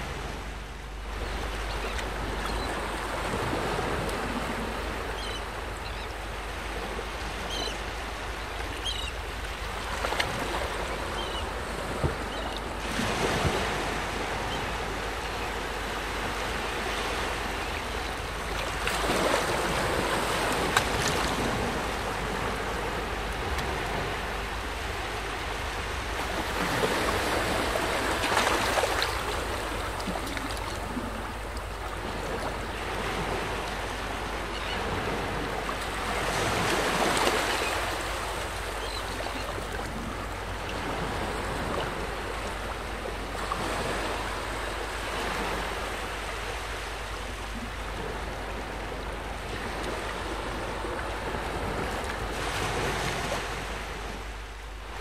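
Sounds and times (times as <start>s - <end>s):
water lapping: 0.0s - 55.0s
wind: 0.0s - 55.0s.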